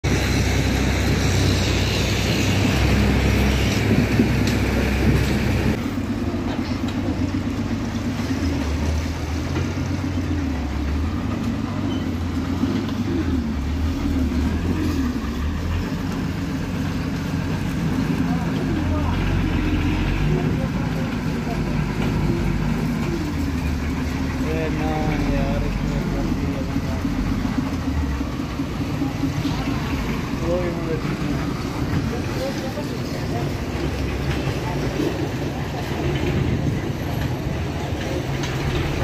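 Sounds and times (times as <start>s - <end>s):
diesel truck engine running: 0.0s - 39.0s.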